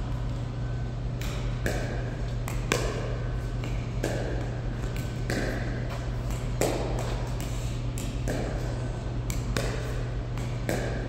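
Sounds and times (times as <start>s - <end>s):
paddles hitting plastic ball: 1.2s - 11.0s.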